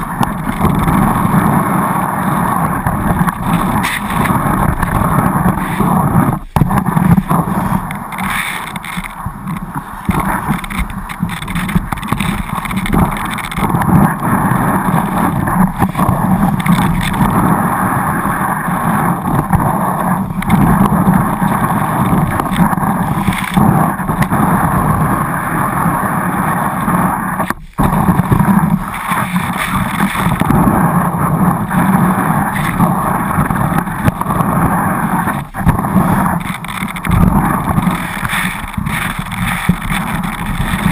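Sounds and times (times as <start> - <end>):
skis running on snow: 0.0 - 40.9
wind rushing over camera: 0.0 - 40.9.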